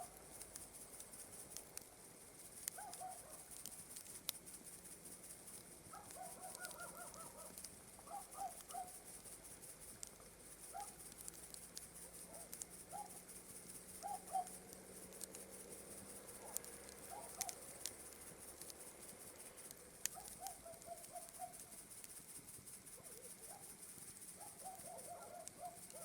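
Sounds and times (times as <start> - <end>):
campfire crackling and popping: 0.0 - 26.0
night insects chirring: 0.0 - 26.0.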